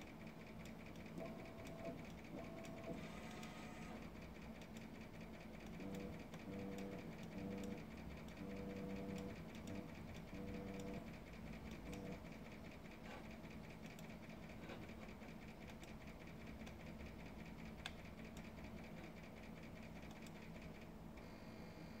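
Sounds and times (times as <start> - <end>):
electronic equipment hum: 0.0 - 22.0.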